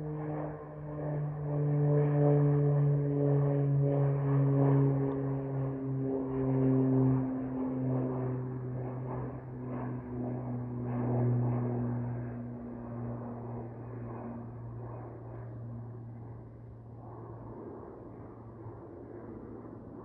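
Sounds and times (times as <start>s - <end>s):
airplane engines droning: 0.0s - 20.0s.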